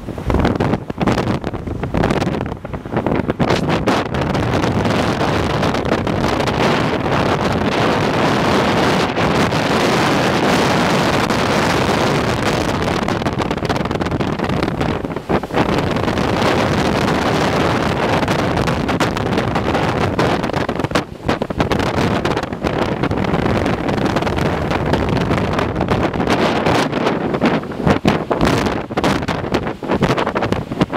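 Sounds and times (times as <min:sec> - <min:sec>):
strong wind buffeting microphone: 0:00.0 - 0:30.9.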